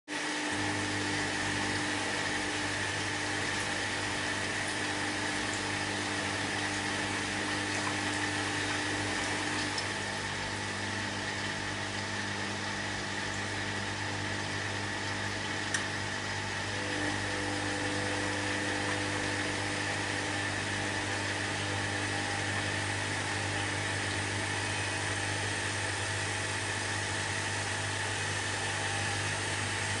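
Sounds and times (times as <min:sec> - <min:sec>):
washing machine motor hum: 0:00.1 - 0:30.0.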